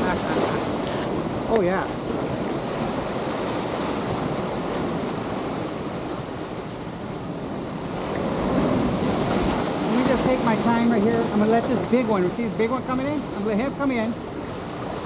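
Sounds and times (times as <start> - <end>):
wind on microphone: 0.0 - 13.4
ocean surf breaking: 0.0 - 15.0.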